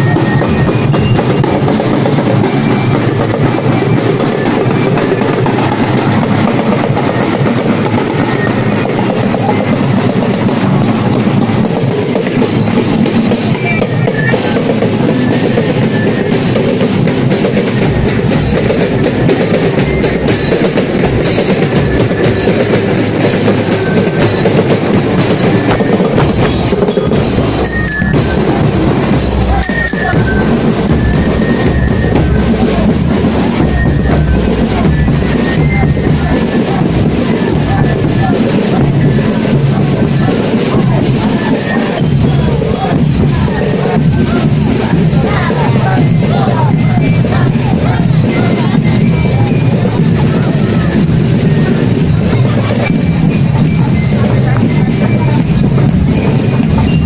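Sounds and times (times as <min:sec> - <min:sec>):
drums and mallet percussion music: 0:00.0 - 0:57.0.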